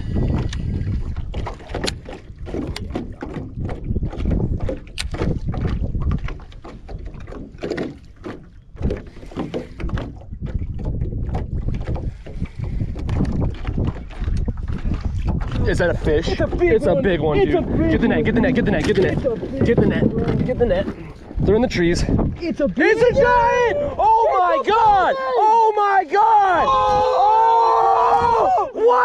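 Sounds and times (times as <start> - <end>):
wind rumbling on microphone: 0.0 - 25.1, 26.5 - 28.7
water lapping at a boat: 0.0 - 29.0.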